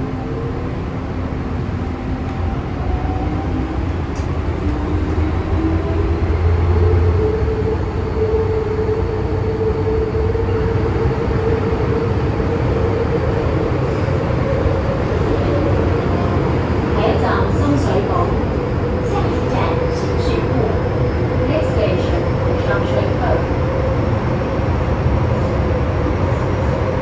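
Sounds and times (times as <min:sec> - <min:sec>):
wheels rumbling on rail: 0:00.0 - 0:27.0.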